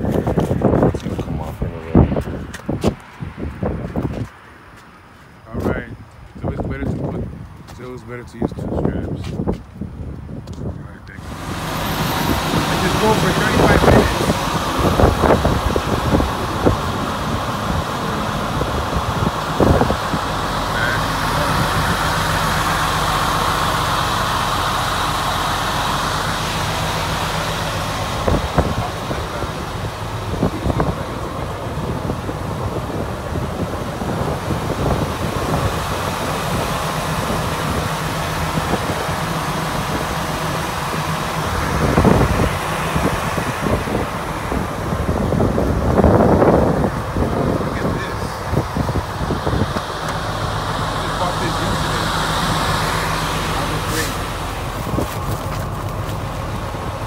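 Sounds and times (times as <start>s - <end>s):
diesel truck engine idling: 3.4s - 57.0s
rushes of noise: 11.1s - 57.0s.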